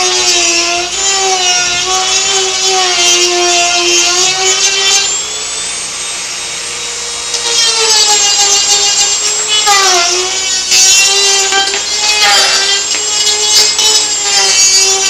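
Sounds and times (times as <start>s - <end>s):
rotary tool whining while sanding: 0.0s - 15.0s.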